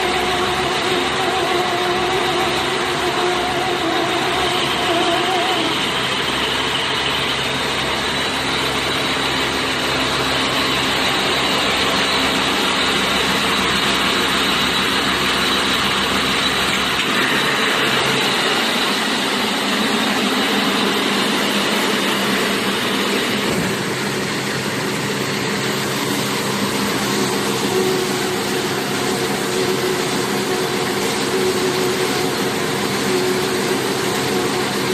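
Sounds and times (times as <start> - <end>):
baler mechanical drone: 0.0 - 34.9.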